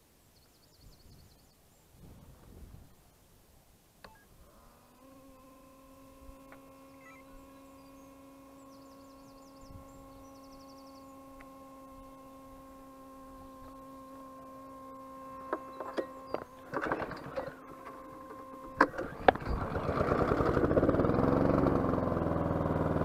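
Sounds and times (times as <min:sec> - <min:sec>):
steady electric hum: 0:00.0 - 0:23.0.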